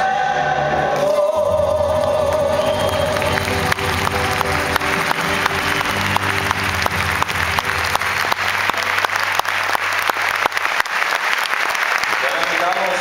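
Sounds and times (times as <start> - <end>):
audience applauding: 1.5 - 13.0.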